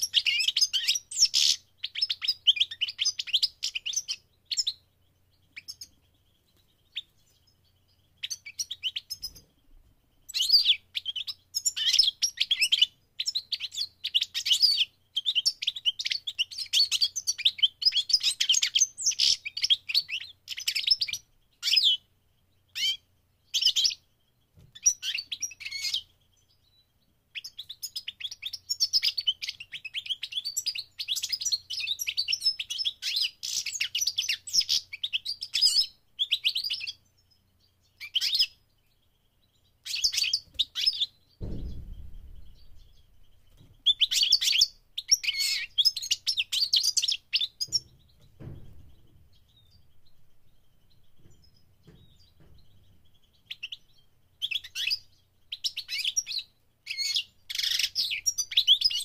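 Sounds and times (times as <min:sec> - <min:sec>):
goldfinch singing: 0:00.0 - 0:09.5, 0:10.3 - 0:22.0, 0:24.6 - 0:59.0.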